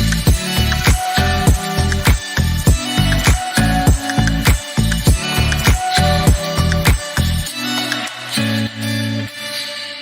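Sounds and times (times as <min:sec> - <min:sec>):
pop song: 0:00.0 - 0:10.0.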